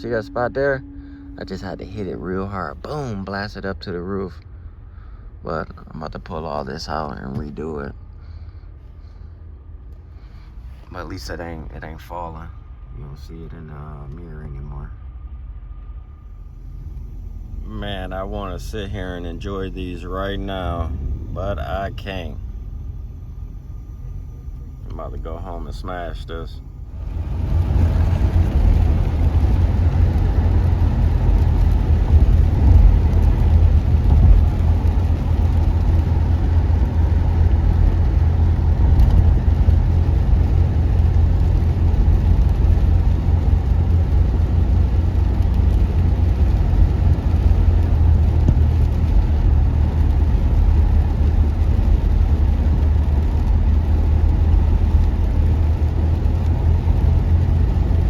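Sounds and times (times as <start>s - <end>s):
car engine and exhaust droning: 0.0s - 58.0s
road noise: 0.0s - 58.0s.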